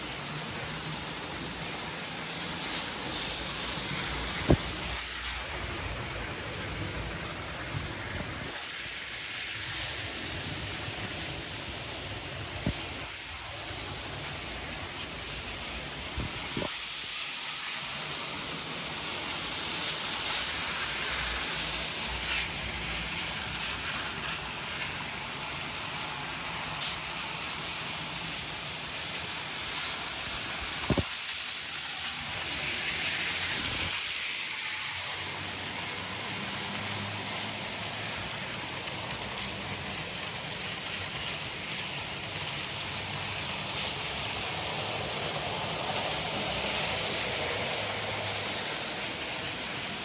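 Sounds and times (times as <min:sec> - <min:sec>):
model train rumbling: 0:00.0 - 0:50.0.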